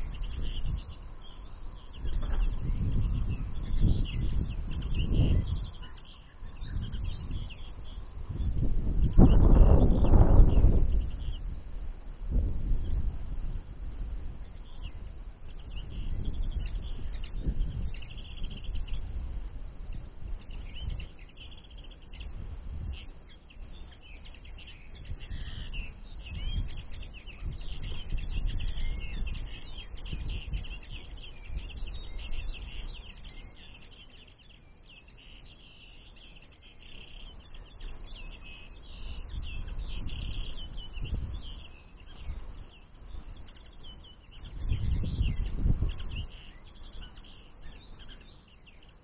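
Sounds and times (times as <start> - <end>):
linnets twittering: 0.0 - 49.0.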